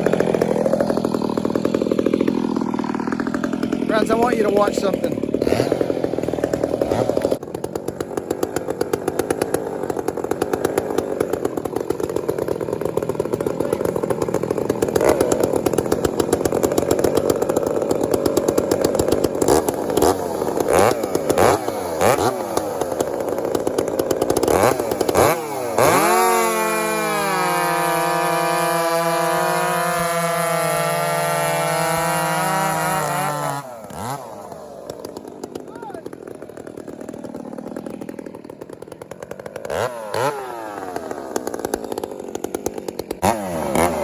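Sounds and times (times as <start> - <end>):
chainsaw cutting at full throttle: 0.0 - 44.0
chainsaw idling: 0.0 - 44.0.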